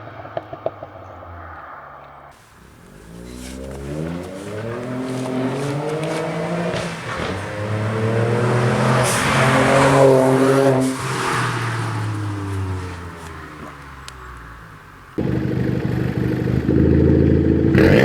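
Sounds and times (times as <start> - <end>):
car engine accelerating hard: 2.4 - 18.0.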